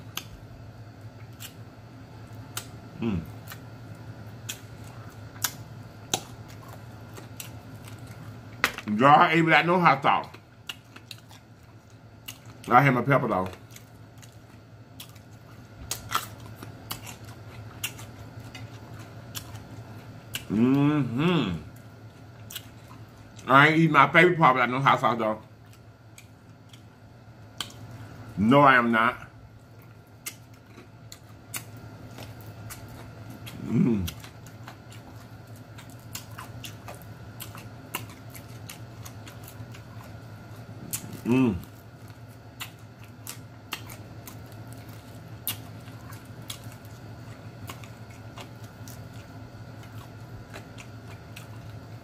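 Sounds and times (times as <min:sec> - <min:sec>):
low steady hum: 0:00.0 - 0:52.0
chewing and lip smacking: 0:02.2 - 0:08.6, 0:10.0 - 0:20.6, 0:21.7 - 0:23.5, 0:25.4 - 0:28.4, 0:29.6 - 0:52.0.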